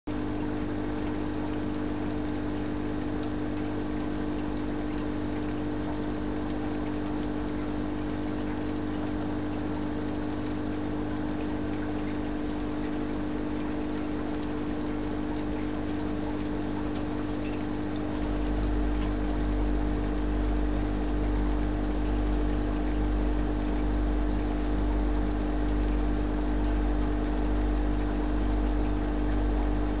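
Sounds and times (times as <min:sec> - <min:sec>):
electric hum with held tones: 0:00.1 - 0:30.0.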